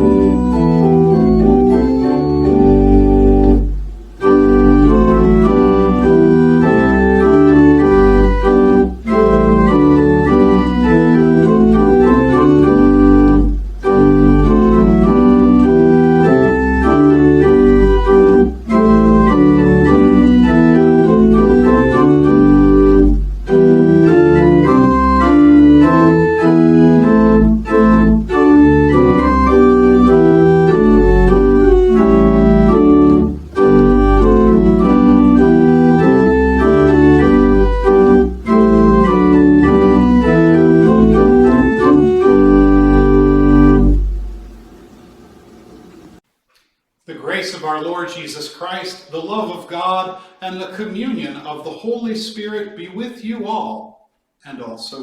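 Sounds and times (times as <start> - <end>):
organ playing held chords: 0.0 - 46.2.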